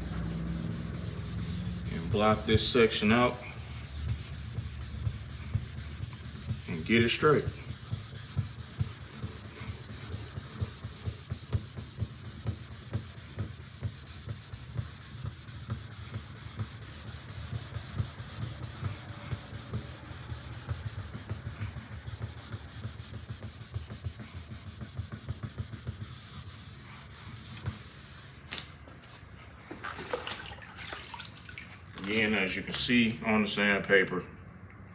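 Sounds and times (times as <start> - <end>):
sandpaper rubbing strokes: 0.0 - 29.3.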